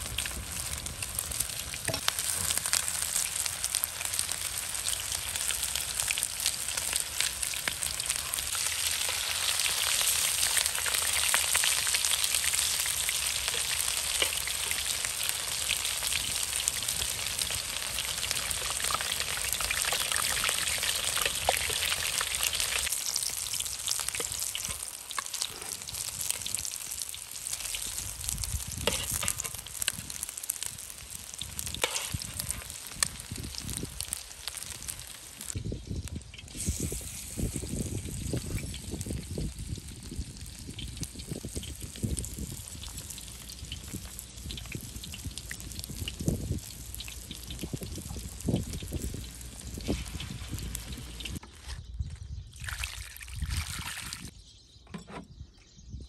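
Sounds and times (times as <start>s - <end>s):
patties frying in oil: 0.0s - 51.4s.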